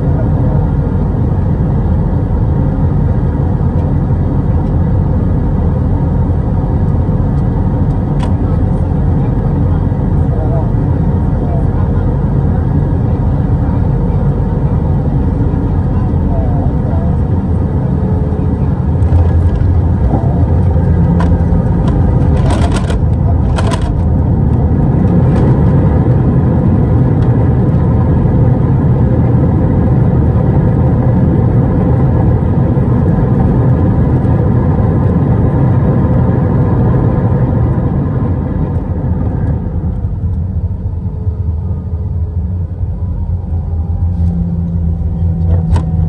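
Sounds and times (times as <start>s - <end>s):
airplane cabin engine rumble: 0.0s - 46.0s.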